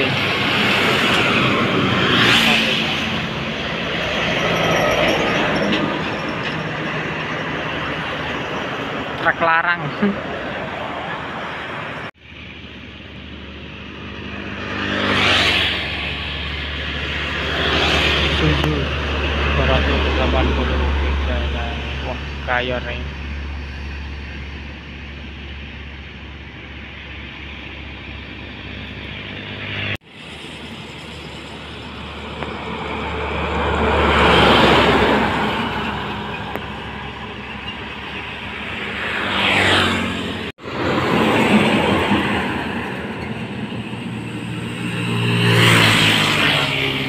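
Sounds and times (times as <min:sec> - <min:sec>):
motor scooters passing: 0:00.0 - 0:04.8, 0:09.9 - 0:25.6, 0:28.0 - 0:47.0
truck engine rumbling: 0:00.0 - 0:14.8, 0:15.5 - 0:47.0
tanker truck passing: 0:00.0 - 0:47.0.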